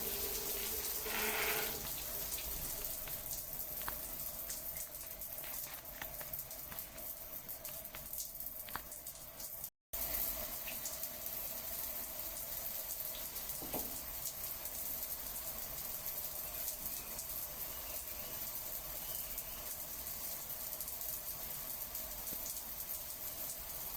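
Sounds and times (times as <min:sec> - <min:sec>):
water running: 0:00.0 - 0:23.9.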